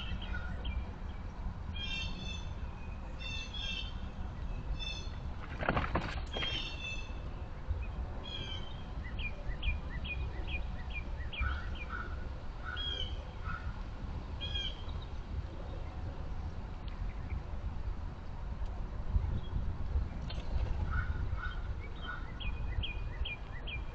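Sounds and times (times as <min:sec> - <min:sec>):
birds calling: 0:00.0 - 0:17.5, 0:19.3 - 0:23.9
steady low rumble: 0:00.0 - 0:23.9.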